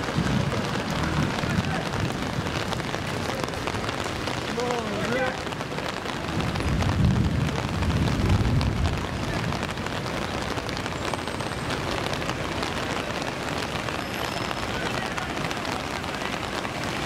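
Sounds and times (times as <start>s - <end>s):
rain and rushing floodwater: 0.0s - 17.0s.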